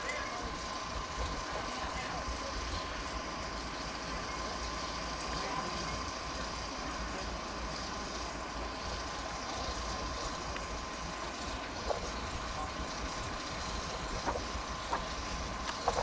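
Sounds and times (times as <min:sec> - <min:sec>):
crane engine running: 0:00.0 - 0:16.0.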